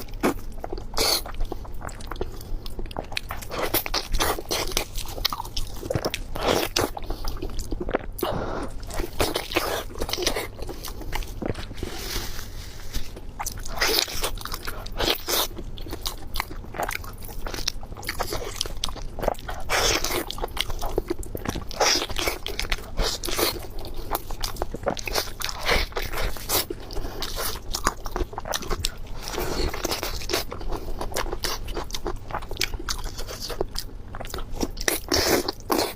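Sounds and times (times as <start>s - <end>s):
crunchy food chewing: 0.0s - 35.9s.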